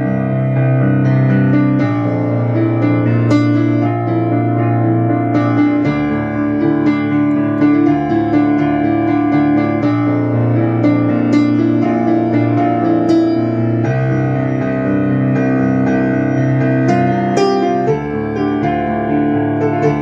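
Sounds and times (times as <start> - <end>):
digital piano chords and bass: 0.0 - 20.0.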